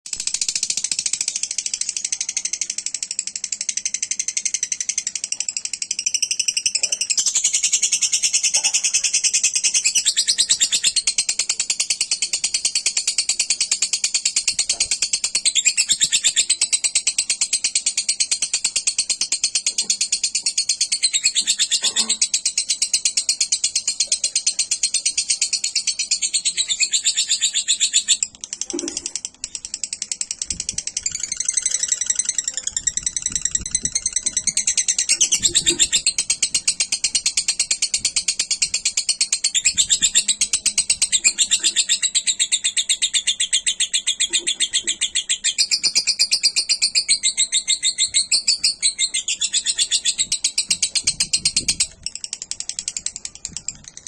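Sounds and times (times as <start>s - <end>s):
lovebird high-pitched trill: 0.1s - 54.0s.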